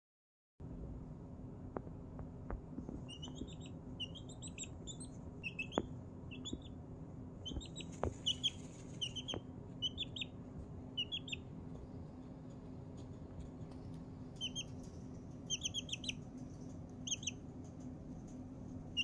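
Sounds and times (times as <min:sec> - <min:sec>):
chick peeping and trilling: 0:02.9 - 0:19.0.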